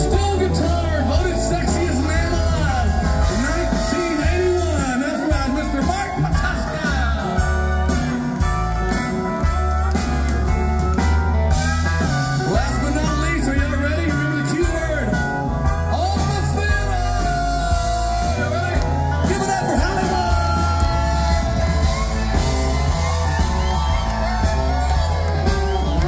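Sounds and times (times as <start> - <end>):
live country band playing: 0.0 - 26.0.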